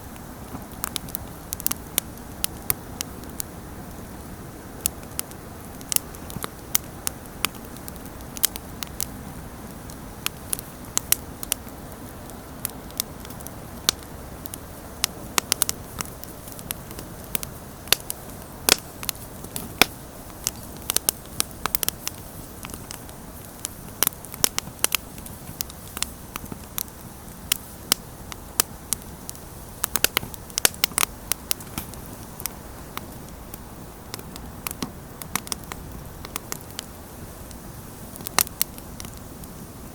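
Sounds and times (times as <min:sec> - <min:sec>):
campfire flames rushing: 0:00.0 - 0:39.9
wood crackling and popping: 0:00.0 - 0:39.9.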